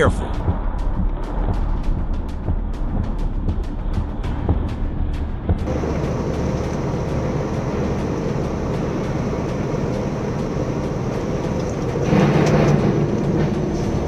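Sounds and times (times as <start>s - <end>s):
vehicle rumble with road noise: 0.0s - 14.0s.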